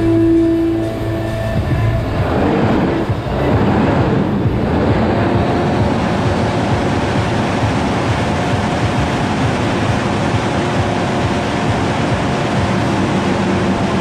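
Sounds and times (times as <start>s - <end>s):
diesel tractors running: 0.0s - 14.0s.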